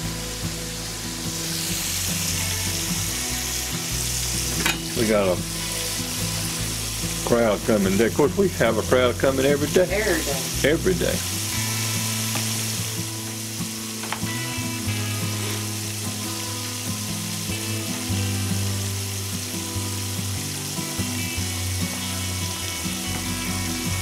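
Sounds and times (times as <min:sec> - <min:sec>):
fish deep-frying in hot oil: 0:00.0 - 0:24.0.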